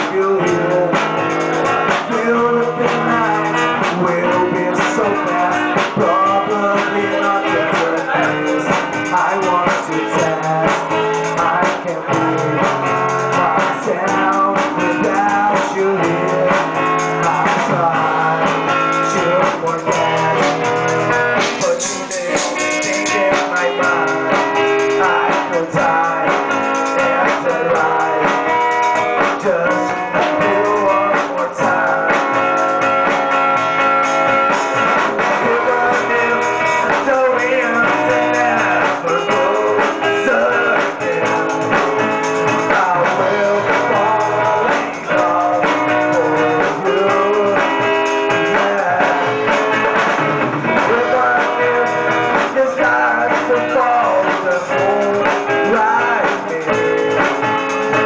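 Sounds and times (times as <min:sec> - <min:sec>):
band playing live: 0:00.0 - 0:58.0
drum kit: 0:00.0 - 0:58.0
electric guitar: 0:00.0 - 0:58.0.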